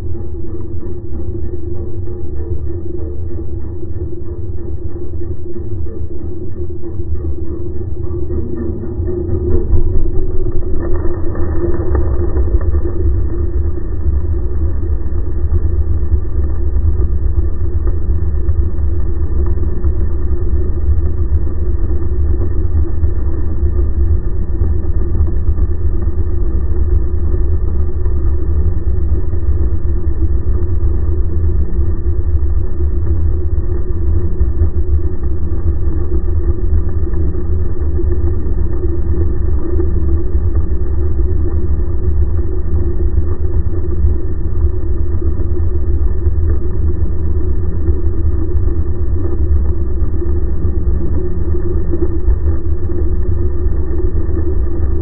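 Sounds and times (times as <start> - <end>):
outboard motor heard underwater: 0.0 - 55.0.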